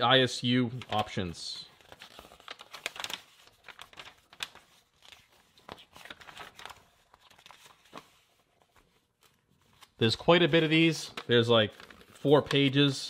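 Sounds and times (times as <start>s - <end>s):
paper pages flipping: 0.7s - 13.0s.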